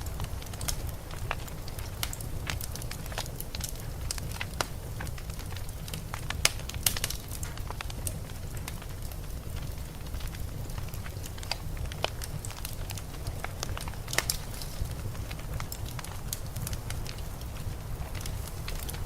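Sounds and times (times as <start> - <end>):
blizzard wind rumble: 0.0 - 19.0
wood fire crackling: 0.0 - 19.0.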